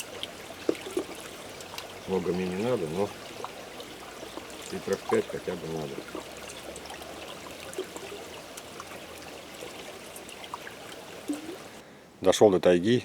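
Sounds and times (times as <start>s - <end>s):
small brook trickling: 0.0s - 11.8s.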